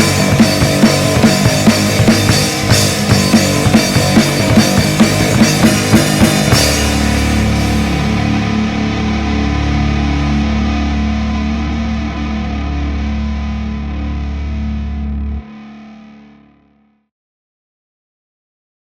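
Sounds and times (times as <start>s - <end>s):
distorted electric guitar chord: 0.0s - 16.9s.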